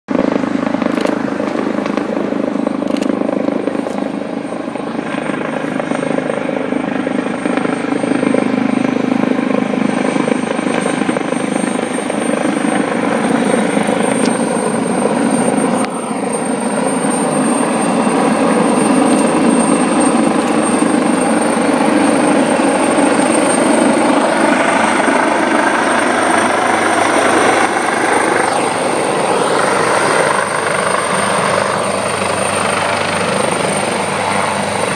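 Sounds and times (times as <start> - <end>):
helicopter rotor and engine noise: 0.1 - 34.9
high-pitched turbine whine: 0.1 - 34.9.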